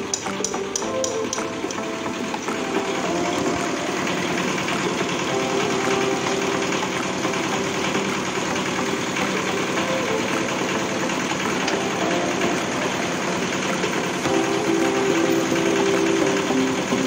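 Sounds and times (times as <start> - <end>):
small petrol engine idling: 0.0 - 17.0.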